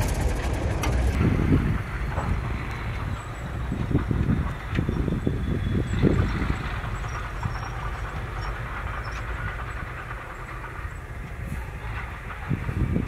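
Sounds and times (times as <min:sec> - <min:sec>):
diesel dump truck rumbling: 0:00.0 - 0:13.0
rushing noise: 0:00.0 - 0:13.0.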